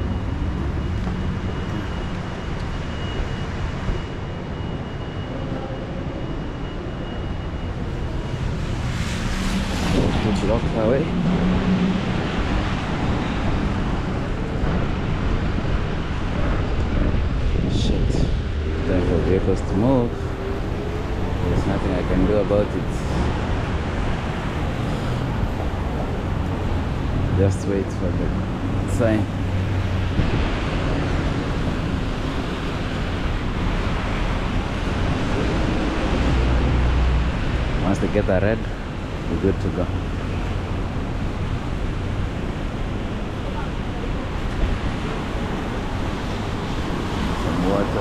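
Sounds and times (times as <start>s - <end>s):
road traffic passing: 0.0s - 48.0s
wind rumbling on microphone: 0.0s - 48.0s.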